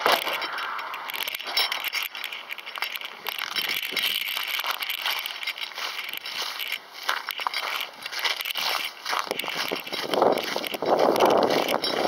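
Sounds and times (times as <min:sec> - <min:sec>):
crackles and clicks: 0:00.0 - 0:12.0.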